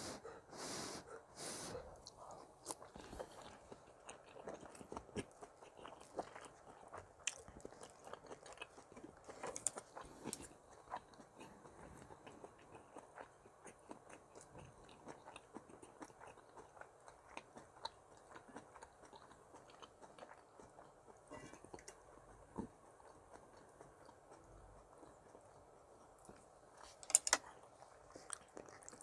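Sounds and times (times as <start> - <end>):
faint chewing: 0.0 - 29.0
small eating clicks: 2.0 - 29.0.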